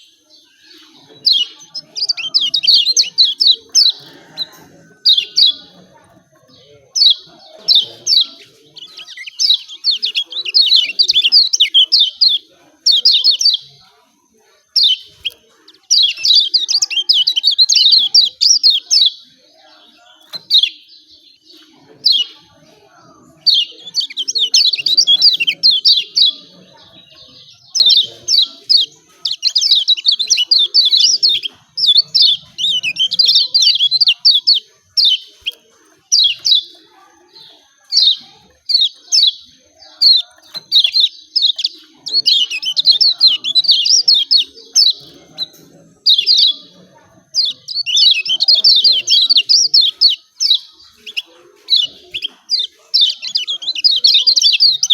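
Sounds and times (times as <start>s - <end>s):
bird rapid high chirping: 0.0s - 13.9s, 14.6s - 22.5s, 23.1s - 54.9s.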